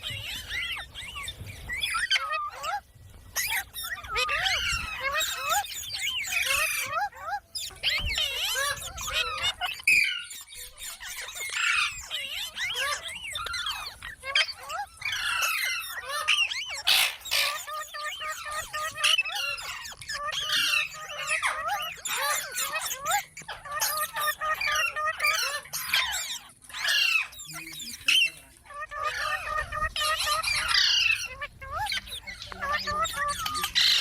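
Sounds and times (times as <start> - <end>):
parrots chattering: 0.0 - 34.0.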